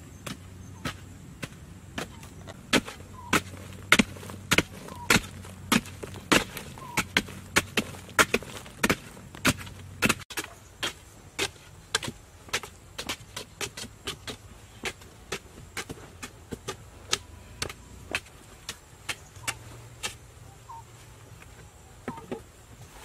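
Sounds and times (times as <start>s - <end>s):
hand tools chopping stony earth: 0.2s - 20.3s.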